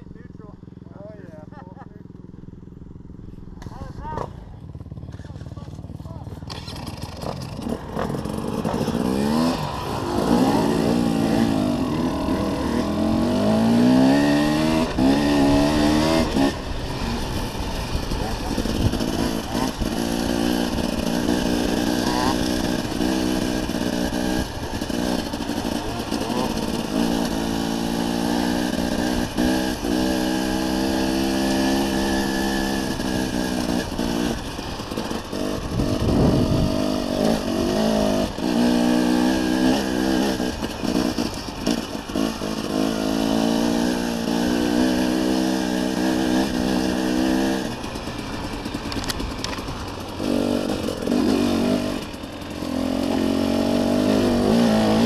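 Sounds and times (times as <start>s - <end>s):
dirt bike engine revving: 2.2s - 55.0s.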